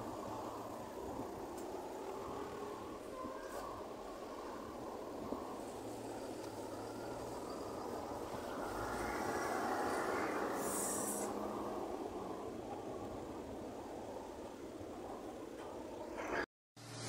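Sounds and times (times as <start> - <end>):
vehicles driving past: 0.0 - 17.0.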